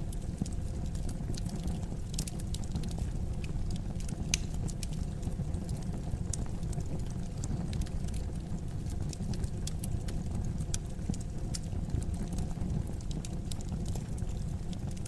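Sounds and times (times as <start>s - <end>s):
fire popping and snapping: 0.0s - 15.0s
low rumble of fire: 0.0s - 15.0s.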